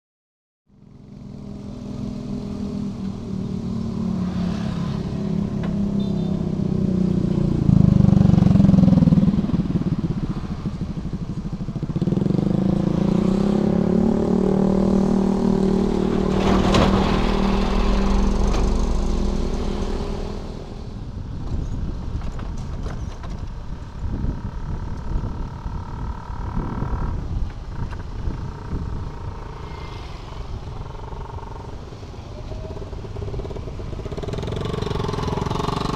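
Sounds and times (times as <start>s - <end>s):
small motorcycles passing: 0.8s - 21.0s, 24.0s - 35.9s.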